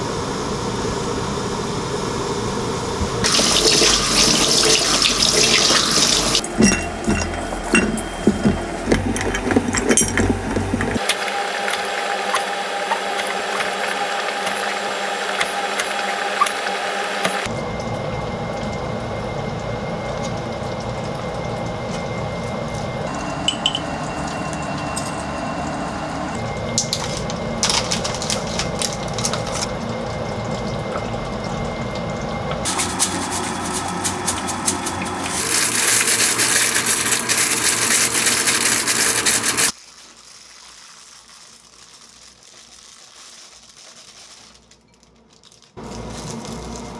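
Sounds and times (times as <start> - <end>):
kitchen food prep sounds: 3.0 - 46.9.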